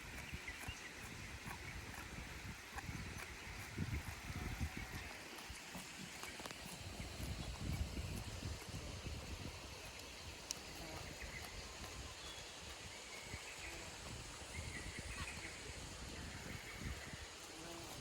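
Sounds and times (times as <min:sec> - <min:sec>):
low wind rumble: 0:01.2 - 0:18.0.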